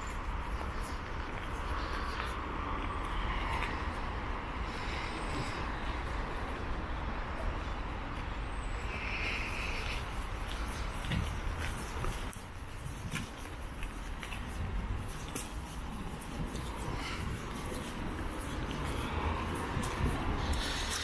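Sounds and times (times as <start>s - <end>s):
low outdoor background rumble: 0.0s - 21.0s.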